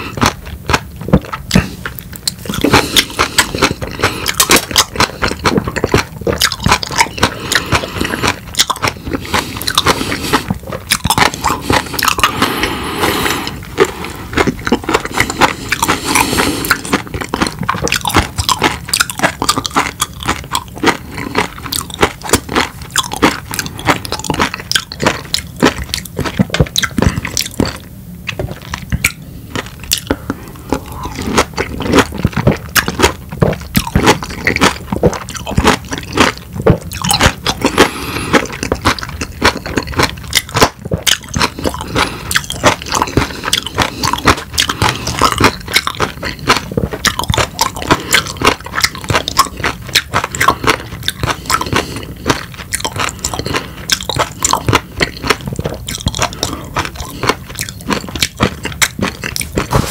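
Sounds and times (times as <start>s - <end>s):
person chewing lemon: 0.0s - 59.9s.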